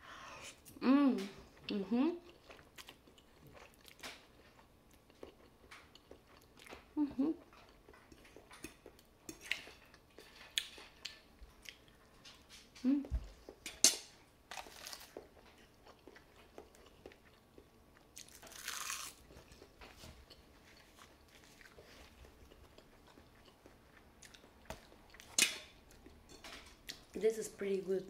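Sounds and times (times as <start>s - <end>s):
wet chewing sounds: 1.4s - 13.9s, 14.5s - 26.2s.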